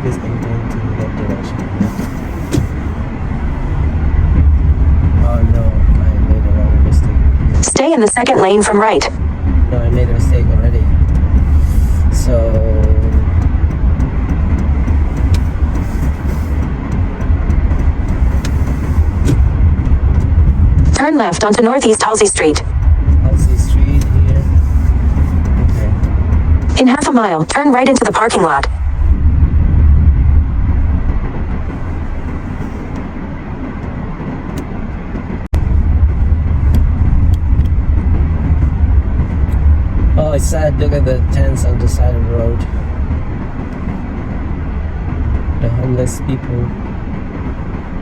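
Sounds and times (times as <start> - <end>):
engine and tyre rumble: 0.0 - 48.0.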